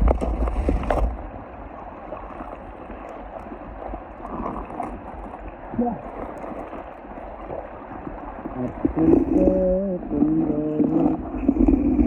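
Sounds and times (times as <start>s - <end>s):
moving water: 0.0s - 12.0s
wind: 0.0s - 12.0s.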